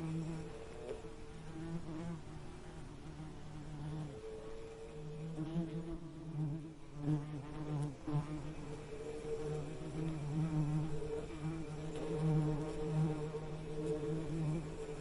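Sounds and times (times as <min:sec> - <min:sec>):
bee buzzing: 0:00.0 - 0:15.0.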